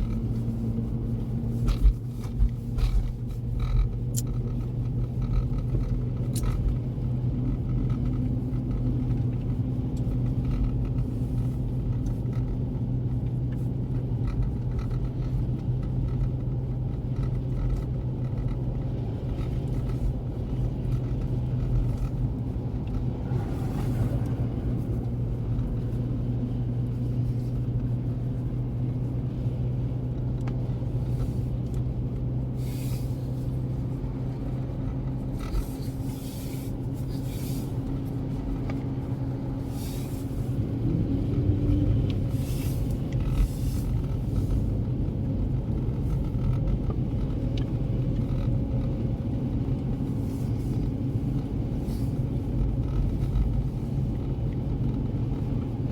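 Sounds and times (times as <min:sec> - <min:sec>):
engine and tyres rumbling: 0:00.0 - 0:55.9.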